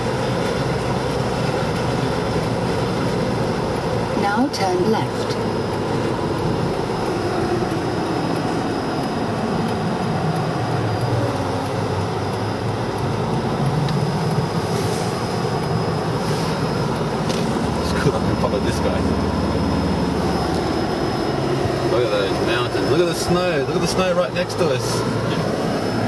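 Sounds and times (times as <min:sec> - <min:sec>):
car engine and tyre road noise: 0:00.0 - 0:26.0.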